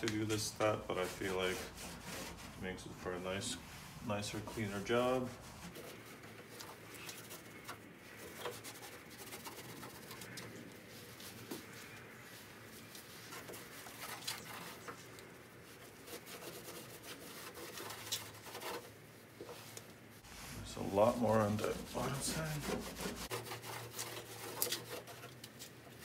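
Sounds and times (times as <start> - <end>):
wipe rubbing on car grille: 3.2 - 26.0.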